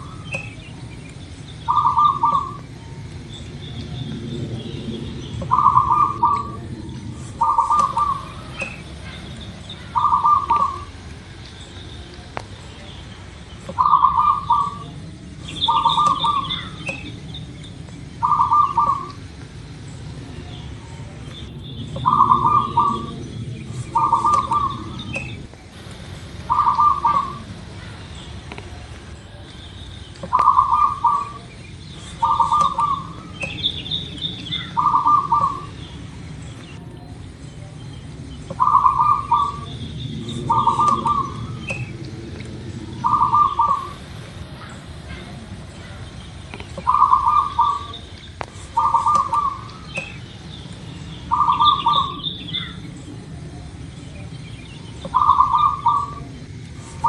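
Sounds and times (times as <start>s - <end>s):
dove cooing: 0.0s - 12.4s, 13.6s - 29.5s, 30.2s - 57.0s.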